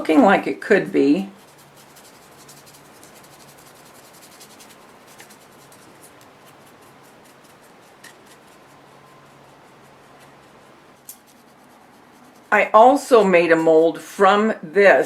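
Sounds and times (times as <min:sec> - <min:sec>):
paintbrush strokes: 0:00.6 - 0:13.5.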